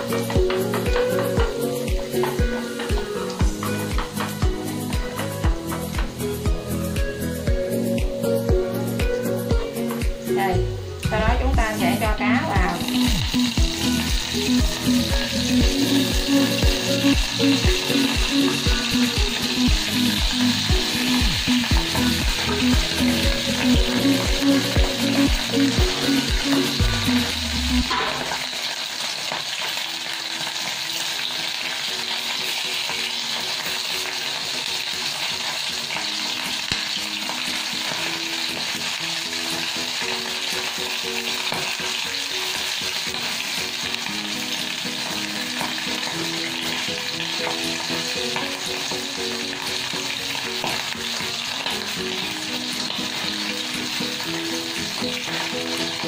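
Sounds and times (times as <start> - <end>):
background music with steady beat: 0.0 - 28.5, 31.9 - 56.0
fish sizzling in oil: 0.0 - 56.0.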